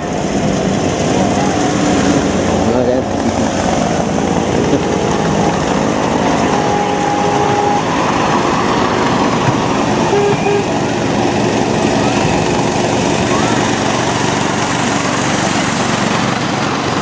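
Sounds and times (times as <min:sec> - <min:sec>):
miniature train running past: 0:00.0 - 0:17.0.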